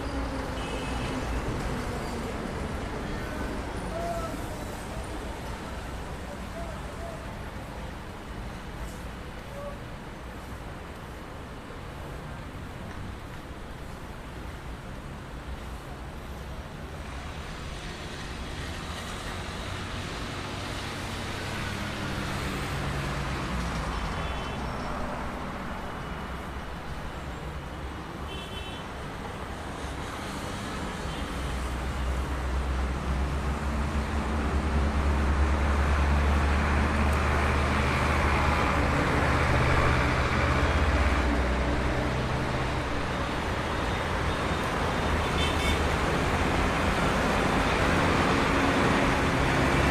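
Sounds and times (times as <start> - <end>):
traffic engines idling: 0.0 - 49.9.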